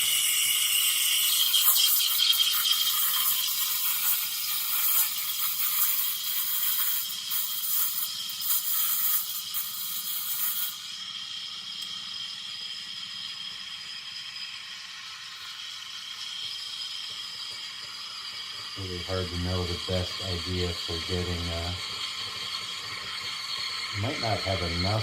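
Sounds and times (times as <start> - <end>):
espresso steam wand hissing: 0.0 - 25.0.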